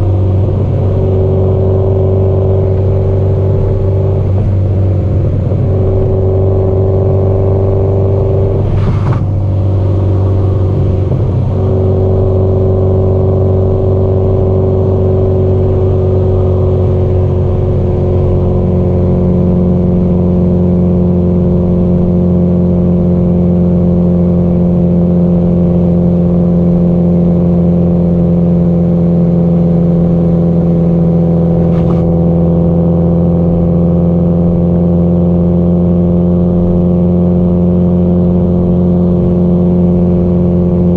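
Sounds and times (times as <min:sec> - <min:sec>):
car engine cruising: 0:00.0 - 0:40.9.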